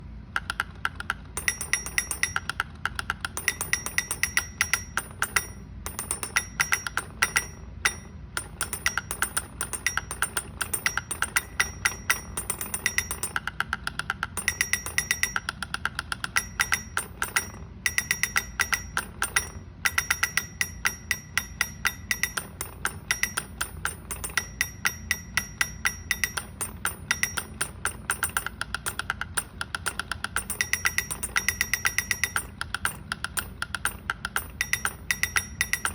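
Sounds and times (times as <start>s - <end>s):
rapid tapping clicks: 0.0s - 35.9s.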